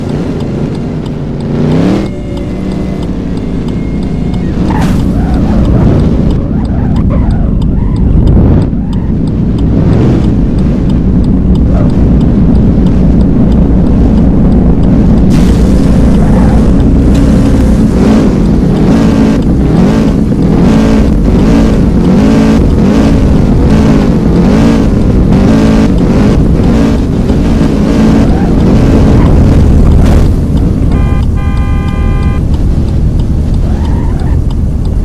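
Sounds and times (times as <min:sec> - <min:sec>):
engine revving: 0:00.0 - 0:35.0.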